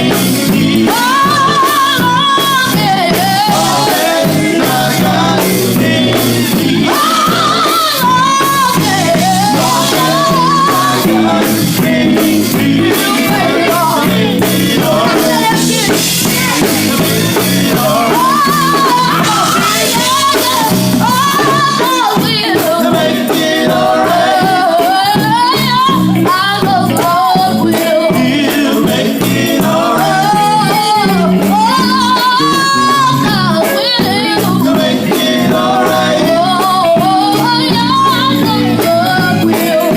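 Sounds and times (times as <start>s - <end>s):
backing band instruments: 0.0s - 39.9s
gospel lead voice singing runs: 0.0s - 39.9s.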